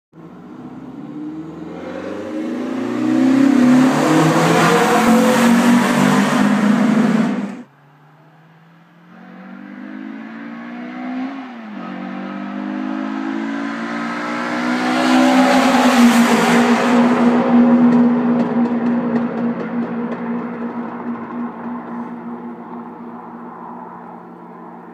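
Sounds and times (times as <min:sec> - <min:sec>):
car engine accelerating hard: 0:00.2 - 0:24.9.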